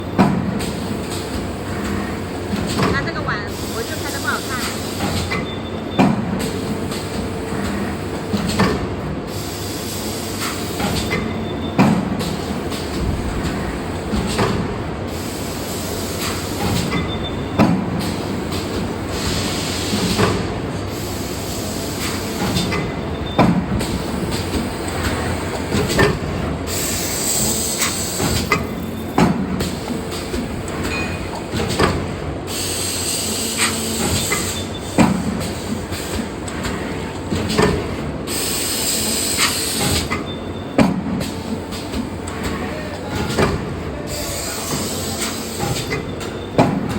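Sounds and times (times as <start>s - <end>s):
hydraulic press machine drone: 0.0s - 46.9s.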